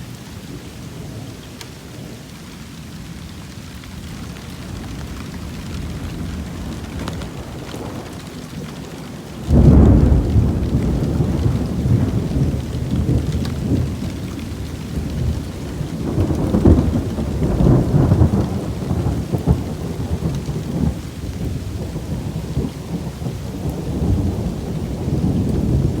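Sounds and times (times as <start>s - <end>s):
steady rain falling: 0.0s - 26.0s
thunderclap and rumbling thunder: 3.0s - 26.0s.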